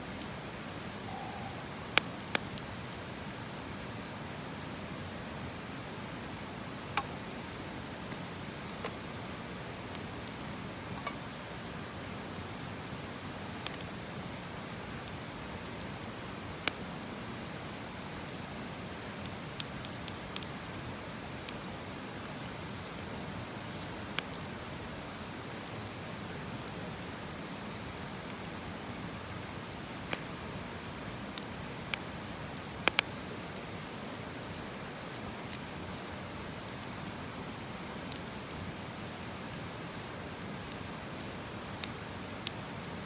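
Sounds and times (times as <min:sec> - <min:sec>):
campfire hissing: 0:00.0 - 0:43.0
fire pops and crackles: 0:00.1 - 0:43.0.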